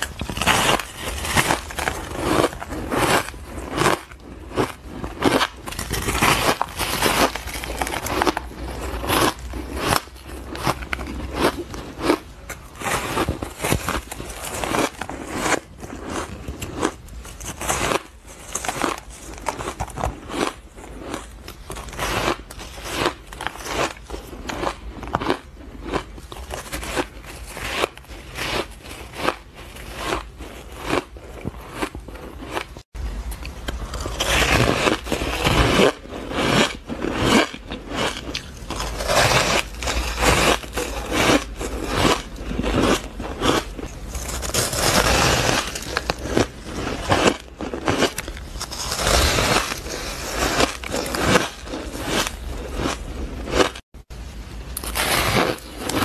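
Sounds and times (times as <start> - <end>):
crunching ice: 0.0 - 53.8, 54.8 - 56.0.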